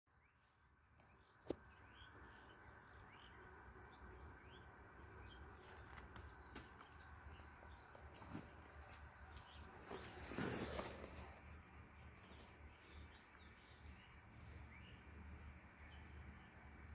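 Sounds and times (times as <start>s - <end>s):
low steady background hum: 0.1s - 16.9s
songbird chirping faintly: 0.1s - 16.9s.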